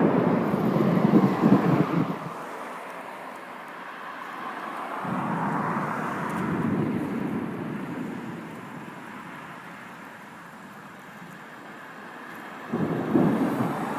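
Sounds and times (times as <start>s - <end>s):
thunder rumble: 0.0s - 2.4s, 5.0s - 13.9s
steady rain hiss: 0.0s - 13.9s.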